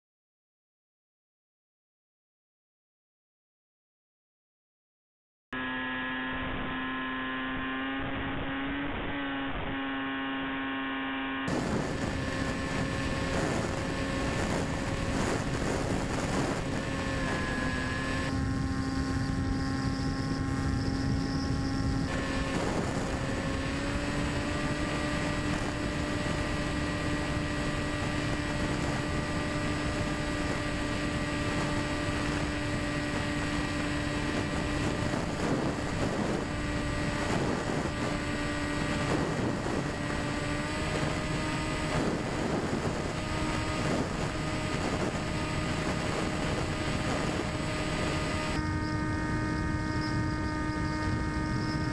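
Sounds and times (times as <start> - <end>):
electric motor and propeller humming: 5.6 - 51.9.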